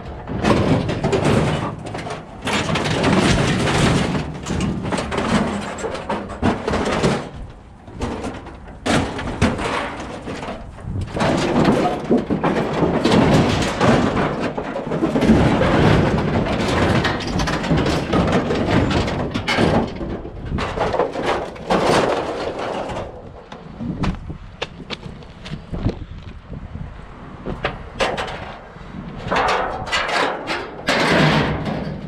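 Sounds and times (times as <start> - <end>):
objects clattering and scraping: 0.0 - 26.6, 27.4 - 32.0.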